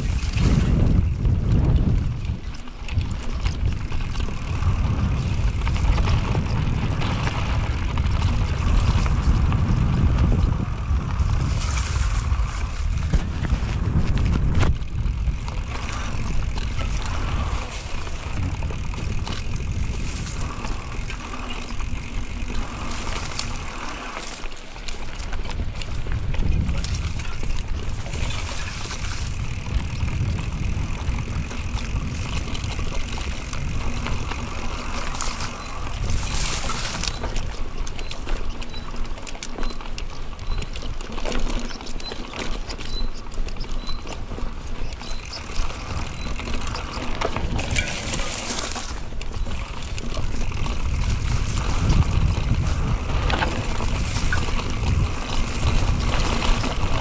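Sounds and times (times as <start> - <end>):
wind buffeting microphone: 0.0 - 38.9, 39.6 - 57.0
bike knocks and rattles: 0.0 - 57.0
bike tyre noise: 0.0 - 57.0.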